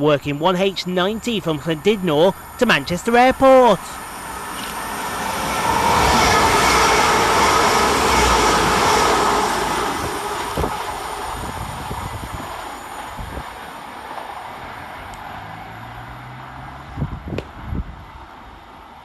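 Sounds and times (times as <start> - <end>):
diesel train passing: 0.0 - 19.0.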